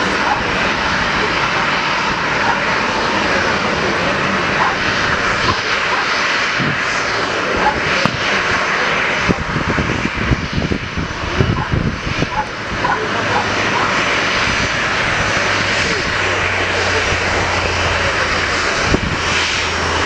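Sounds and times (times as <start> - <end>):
jet engines roaring: 0.0 - 20.0
low buffeting: 0.0 - 20.0.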